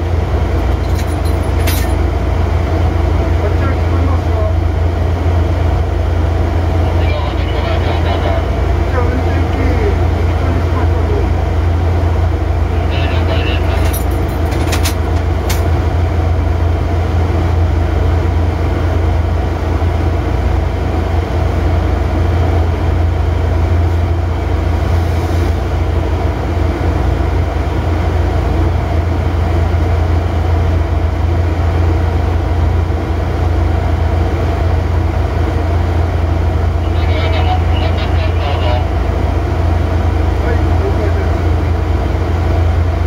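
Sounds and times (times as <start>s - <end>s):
diesel locomotive engine hum: 0.0s - 43.0s.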